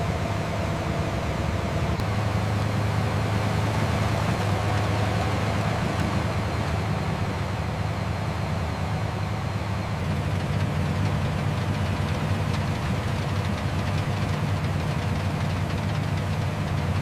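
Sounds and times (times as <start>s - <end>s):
heavy engine rumbling: 0.0s - 17.0s.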